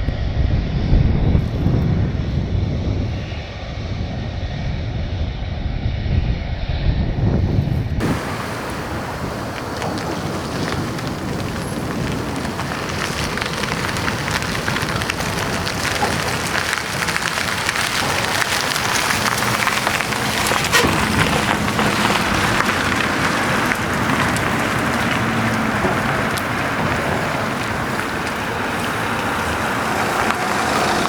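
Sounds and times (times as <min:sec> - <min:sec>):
jet engines crackling rumble: 0:00.0 - 0:31.0.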